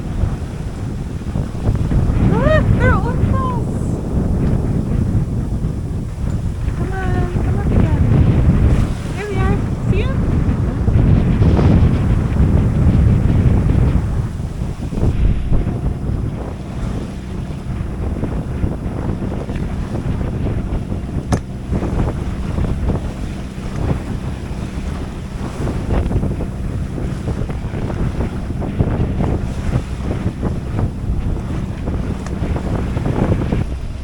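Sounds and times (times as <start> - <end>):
water rushing along hull: 0.0 - 34.0
wind buffeting microphone: 0.0 - 34.0.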